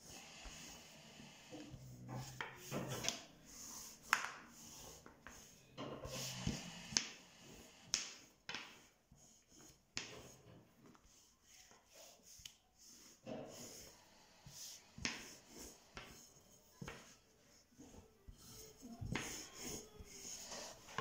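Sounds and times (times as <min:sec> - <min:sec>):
rolling pin rolling dough: 0:00.0 - 0:21.0.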